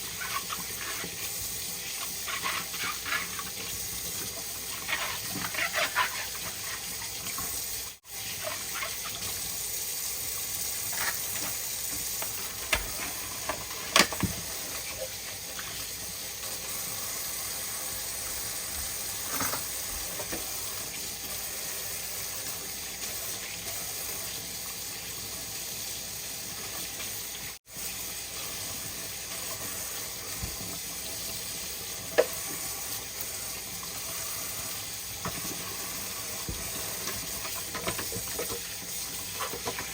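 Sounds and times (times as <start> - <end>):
sink tap running: 0.0 - 39.9.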